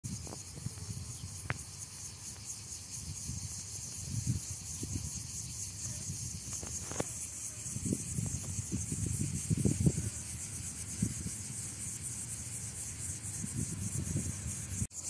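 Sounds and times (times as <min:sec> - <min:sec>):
high-pitched insect chorus: 0:00.1 - 0:15.0.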